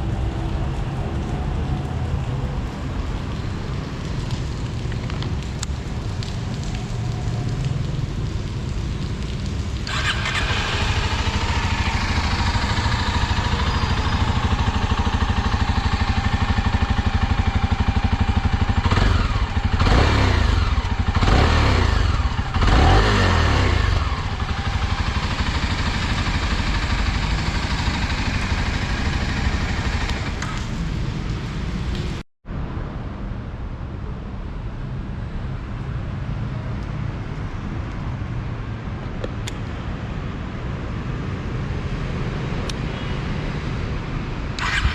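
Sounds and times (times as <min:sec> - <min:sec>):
vehicle engine noise: 0:00.0 - 0:32.9, 0:35.2 - 0:44.9.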